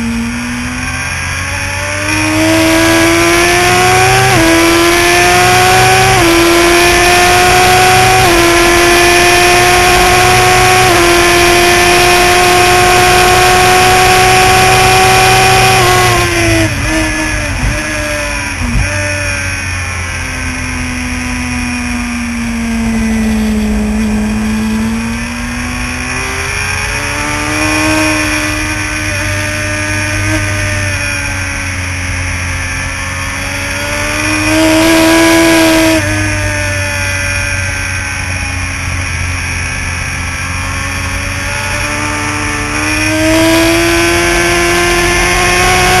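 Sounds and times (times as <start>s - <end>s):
racing motorcycle engine revving: 0.0s - 46.0s.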